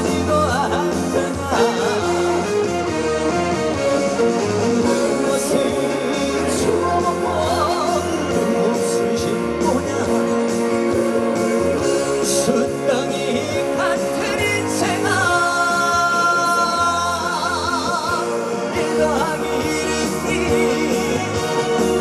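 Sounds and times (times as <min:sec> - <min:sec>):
person singing: 0:00.0 - 0:03.0, 0:04.8 - 0:22.0
band accompaniment: 0:00.0 - 0:22.0.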